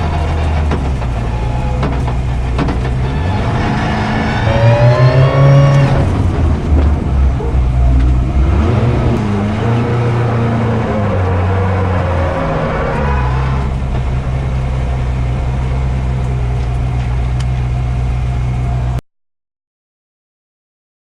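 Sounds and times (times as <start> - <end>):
vehicle engine running: 0.0 - 11.6, 13.0 - 19.0.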